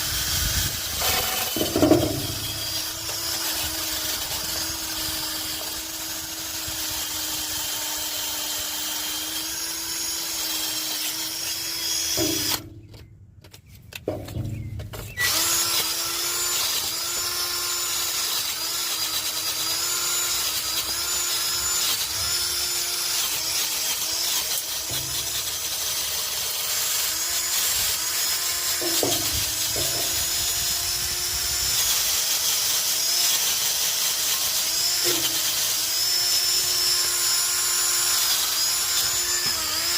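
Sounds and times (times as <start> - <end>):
power tool running: 0.0 - 12.8, 14.1 - 39.9.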